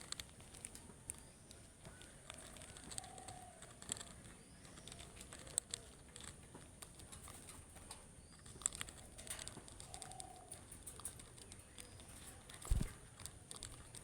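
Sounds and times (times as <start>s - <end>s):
budgerigar clicks and taps: 0.1s - 14.0s.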